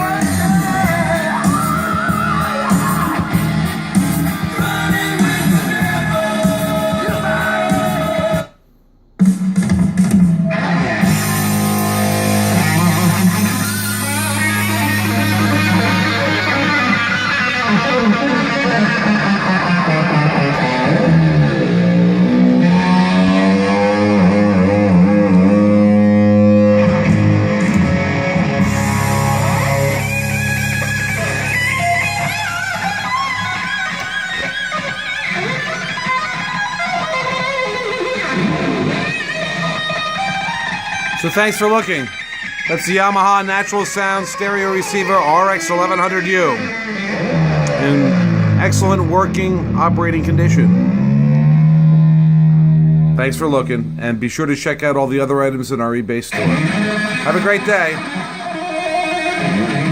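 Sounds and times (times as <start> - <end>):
rock music through speakers: 0.0 - 8.5, 9.2 - 54.0, 56.3 - 59.9.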